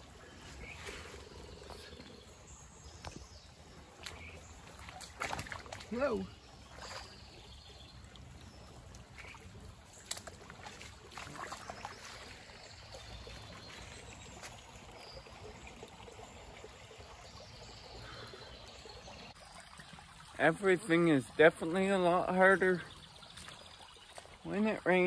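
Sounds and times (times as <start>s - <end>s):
creek water trickling: 0.0s - 25.0s.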